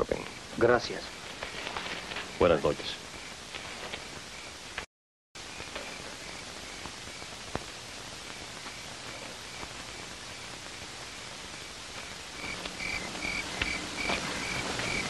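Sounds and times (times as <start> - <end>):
crickets chirping: 0.0 - 4.8, 5.4 - 15.0
steady hiss: 0.0 - 15.0.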